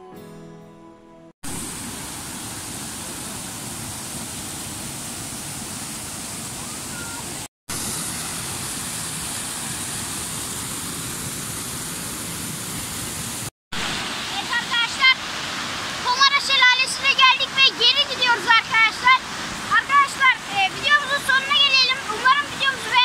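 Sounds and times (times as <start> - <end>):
stream rushing over boulders: 1.4 - 23.0.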